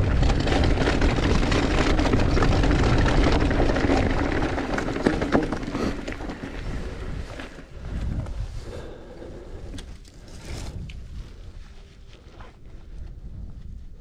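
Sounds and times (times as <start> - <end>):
wind rushing on microphone: 0.0 - 4.8, 6.5 - 14.0
bike rattling over bumps: 0.0 - 11.6
bike tyre noise: 0.0 - 14.0.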